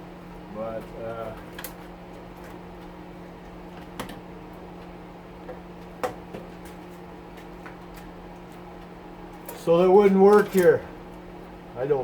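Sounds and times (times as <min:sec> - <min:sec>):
exhaust fan hum: 0:00.0 - 0:12.0.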